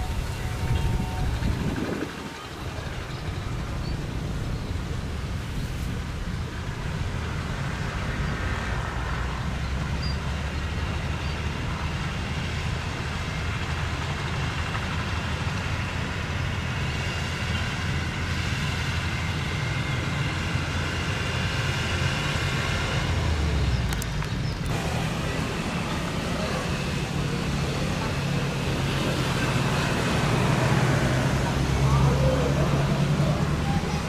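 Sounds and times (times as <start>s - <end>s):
high engine whine: 0.0s - 34.0s
jet engines rumbling: 0.0s - 34.0s.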